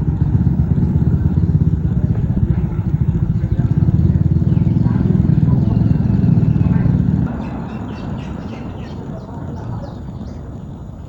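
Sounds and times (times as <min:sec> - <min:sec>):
small engine running: 0:00.0 - 0:10.6.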